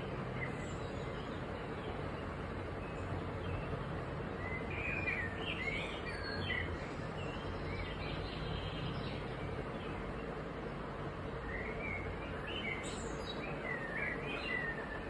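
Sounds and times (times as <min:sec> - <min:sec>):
birds chirping: 0:00.0 - 0:15.0
steady background hum: 0:00.0 - 0:15.0.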